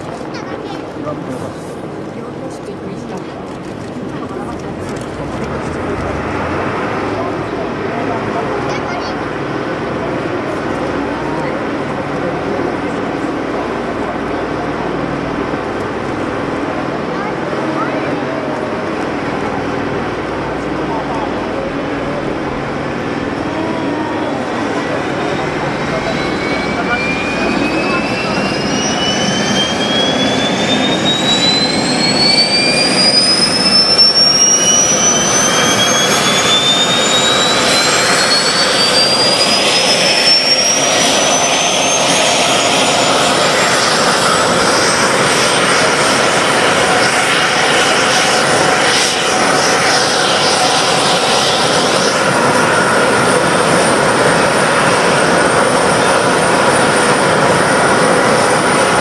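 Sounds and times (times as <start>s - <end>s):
jet engine roar: 0.0s - 59.0s
jet engine whine: 0.0s - 59.0s.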